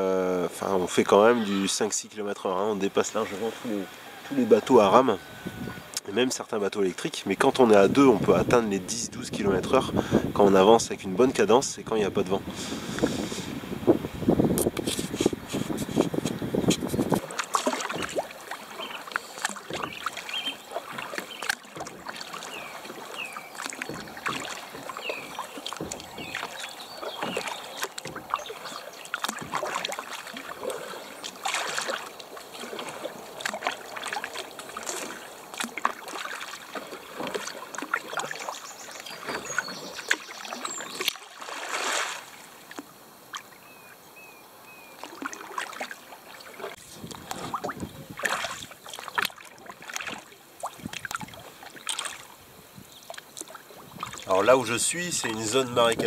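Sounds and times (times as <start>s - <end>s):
canoe paddle splashing: 0.0s - 56.0s.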